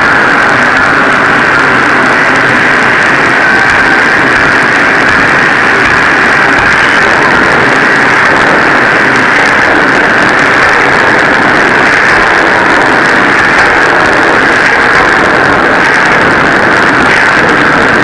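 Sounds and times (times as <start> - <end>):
machinery drone: 0.0 - 18.0.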